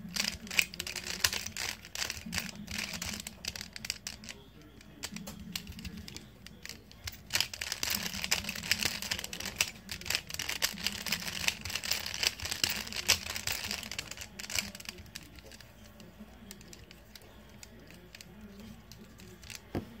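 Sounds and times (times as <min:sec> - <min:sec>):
plastic puzzle cube clicking: 0:00.0 - 0:19.8.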